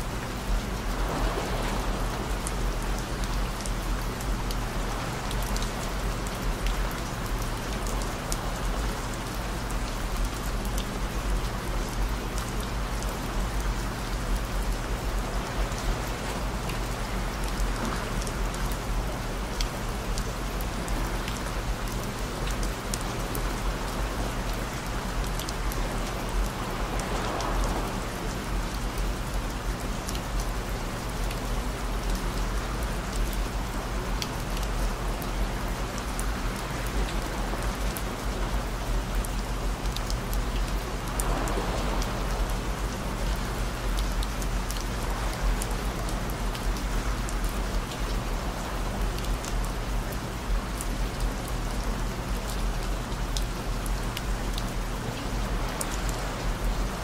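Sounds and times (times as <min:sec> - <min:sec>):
steady rain: 0:00.0 - 0:57.0
sharp rain drop ticks: 0:02.1 - 0:15.1, 0:15.7 - 0:57.0.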